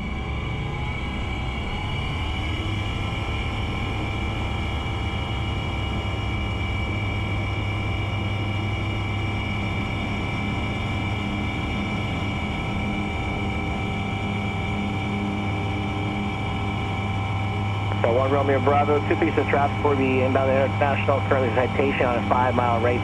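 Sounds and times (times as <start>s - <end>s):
propeller plane engine running: 0.0s - 23.0s.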